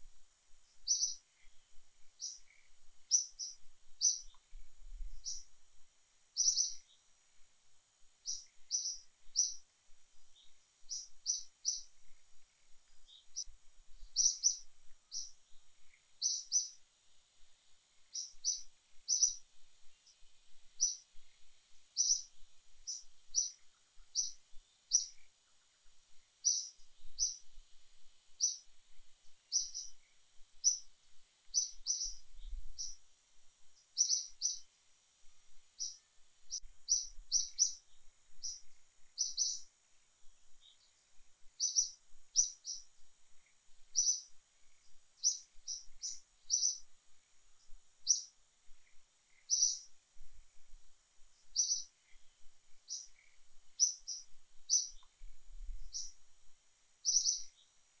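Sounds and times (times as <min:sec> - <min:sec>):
faint high-pitched hiss: 0:00.0 - 0:58.0
bird chirping: 0:00.7 - 0:05.6, 0:06.4 - 0:07.1, 0:08.2 - 0:16.8, 0:17.9 - 0:27.6, 0:28.3 - 0:28.7, 0:29.4 - 0:33.0, 0:33.7 - 0:34.7, 0:35.7 - 0:39.7, 0:40.6 - 0:46.9, 0:47.6 - 0:50.0, 0:51.4 - 0:56.2, 0:57.0 - 0:57.8.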